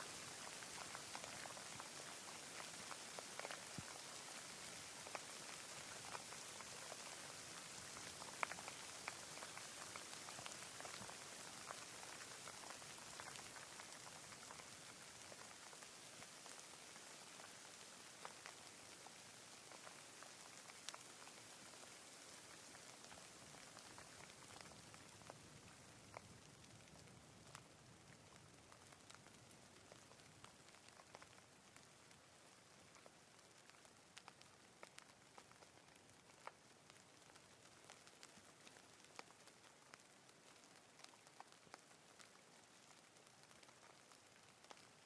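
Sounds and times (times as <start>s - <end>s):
faint rain hiss: 0.0s - 45.0s.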